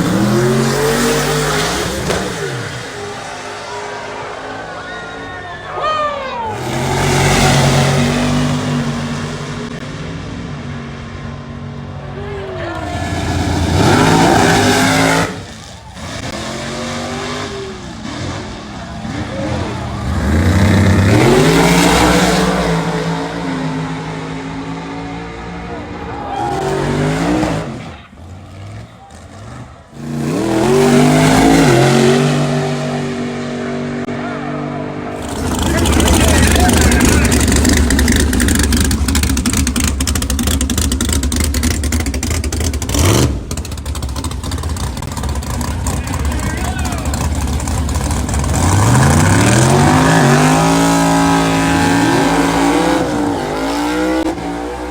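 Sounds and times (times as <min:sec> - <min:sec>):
racing car engines revving: 0:00.0 - 0:54.9.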